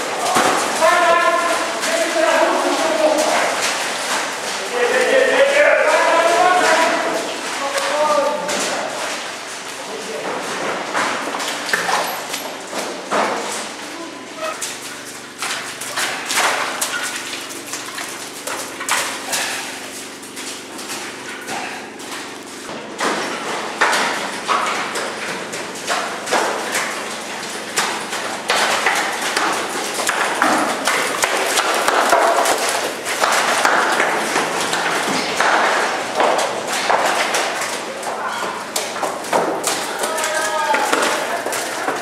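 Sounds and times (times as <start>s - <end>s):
bikes knocking and clattering: 0.0s - 42.0s
water splashing: 0.0s - 42.0s.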